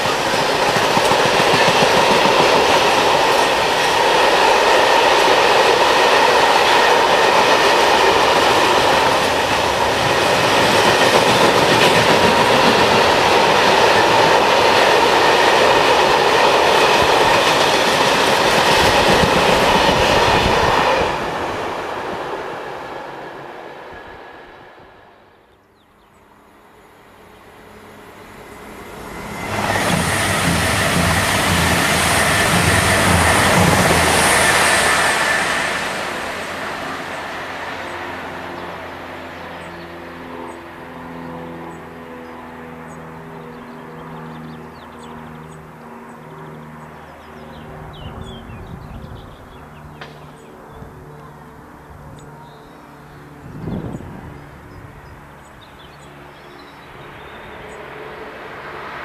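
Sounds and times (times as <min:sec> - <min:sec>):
passenger train passing: 0:00.0 - 0:59.0.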